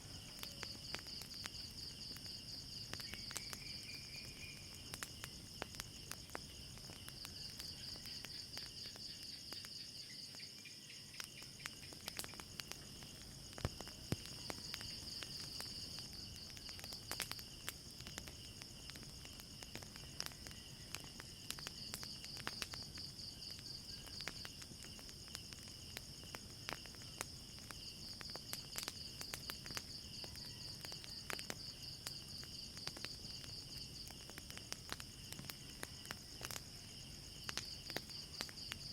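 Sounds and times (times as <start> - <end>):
crickets chirping: 0.0 - 38.9
fire crackling: 0.0 - 38.9.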